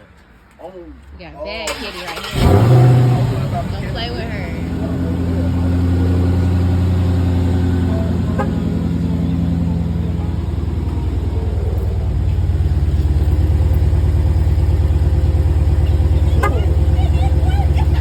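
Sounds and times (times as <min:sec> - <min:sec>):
car engine idling with deep rumble: 0:01.6 - 0:18.0.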